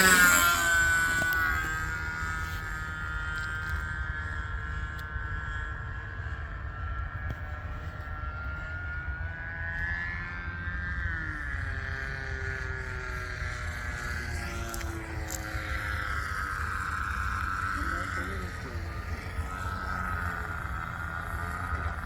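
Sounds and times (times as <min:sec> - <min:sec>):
model plane engine buzzing: 0:00.0 - 0:22.0.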